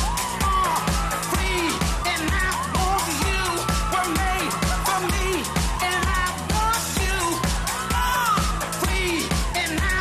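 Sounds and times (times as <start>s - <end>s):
dance music: 0.0s - 10.0s.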